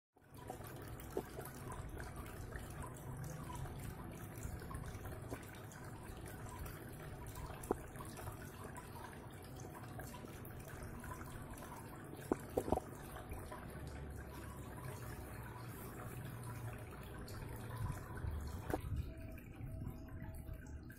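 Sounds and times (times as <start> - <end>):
fountain water trickling: 0.2 - 20.9
water dripping into pots: 0.2 - 20.9.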